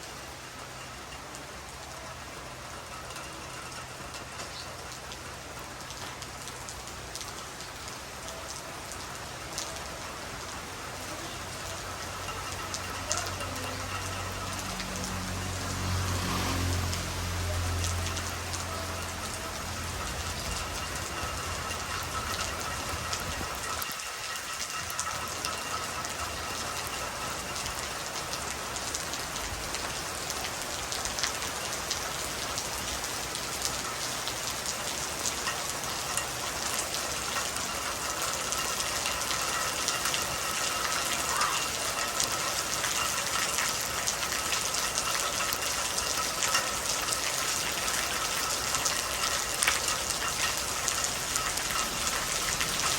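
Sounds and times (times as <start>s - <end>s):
soft rain falling: 0.0s - 52.9s.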